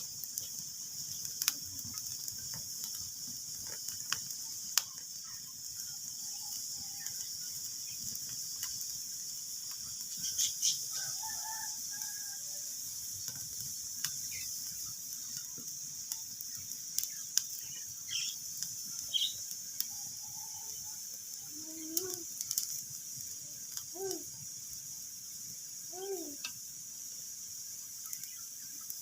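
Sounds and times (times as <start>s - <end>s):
faint chirp-like tones: 0.0s - 29.0s
wood fire crackling: 0.0s - 29.0s.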